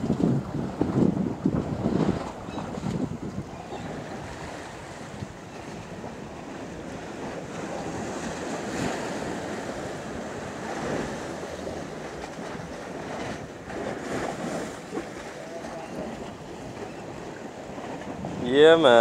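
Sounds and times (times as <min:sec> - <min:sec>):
sea waves on rocks: 0:00.0 - 0:19.0
wind buffeting microphone: 0:00.0 - 0:19.0.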